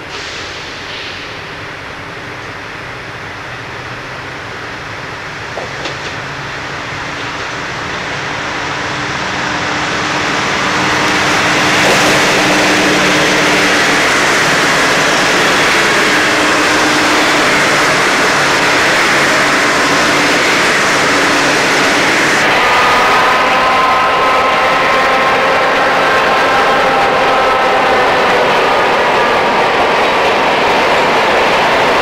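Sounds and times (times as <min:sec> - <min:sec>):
diesel railcar engines running: 0:00.0 - 0:32.0
train wheel and rail noise: 0:00.0 - 0:32.0.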